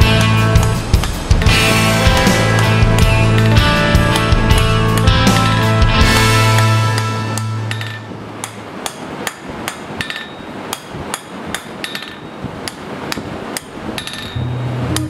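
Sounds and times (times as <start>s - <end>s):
hammer striking steel on anvil: 0.1s - 12.8s.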